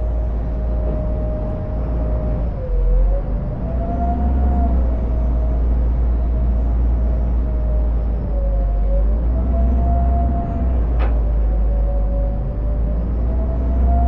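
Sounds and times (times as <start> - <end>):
boat engines rumbling: 0.0 - 14.0
engine whine: 0.0 - 14.0.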